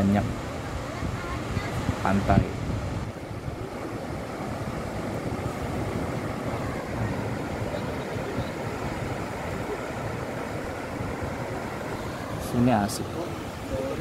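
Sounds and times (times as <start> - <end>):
ocean surf breaking on sand: 0.0 - 14.0
wind: 0.0 - 14.0.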